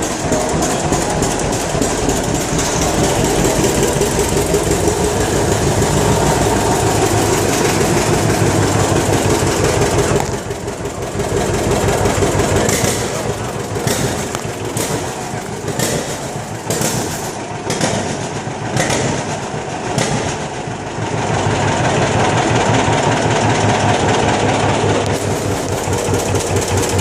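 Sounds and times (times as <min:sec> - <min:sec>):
two-cylinder engine running: 0:00.0 - 0:27.0.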